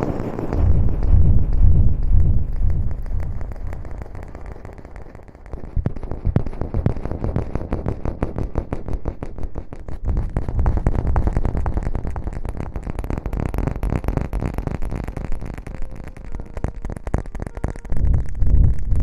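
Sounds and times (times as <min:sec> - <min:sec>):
rustling and scrubbing crackles: 0:00.0 - 0:19.0.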